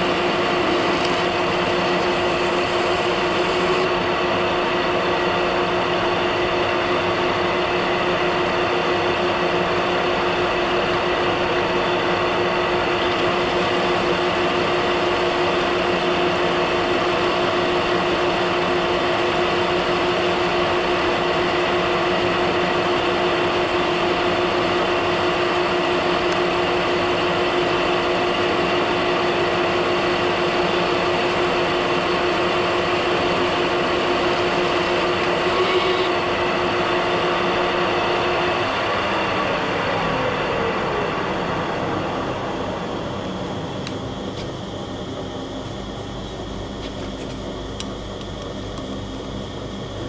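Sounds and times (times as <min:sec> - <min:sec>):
metal lathe whining: 0:00.0 - 0:50.0.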